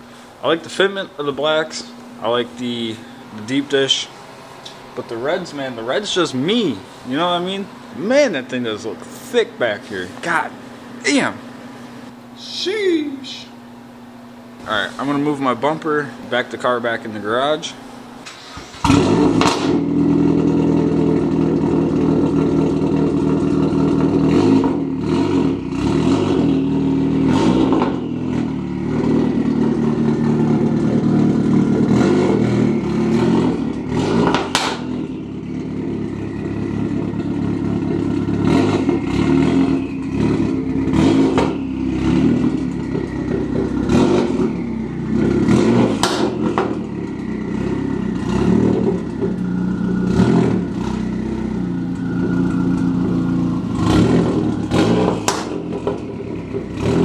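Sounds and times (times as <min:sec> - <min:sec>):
car engine running at low revs: 0:00.0 - 0:12.4, 0:13.5 - 0:57.0
exhaust cracks: 0:00.0 - 0:57.0.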